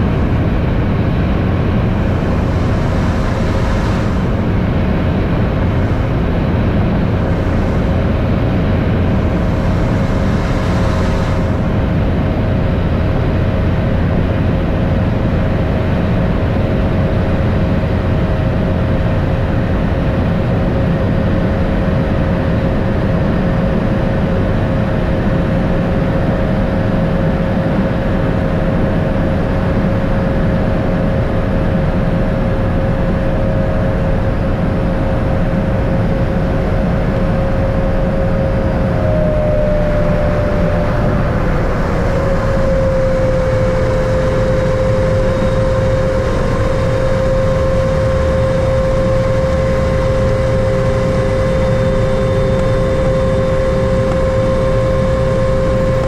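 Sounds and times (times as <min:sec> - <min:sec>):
aircraft engine rumble inside cabin: 0:00.0 - 0:56.0
propeller engine whine: 0:00.0 - 0:56.0.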